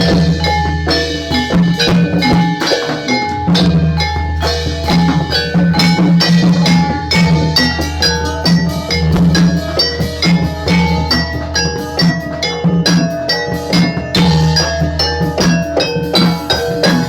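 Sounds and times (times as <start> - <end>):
amplified gamelan music: 0.0 - 17.0.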